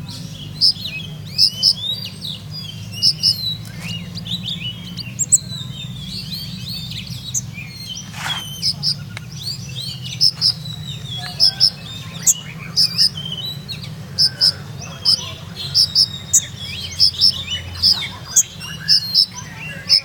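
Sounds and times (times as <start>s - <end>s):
sunbird twittering song: 0.0s - 20.0s.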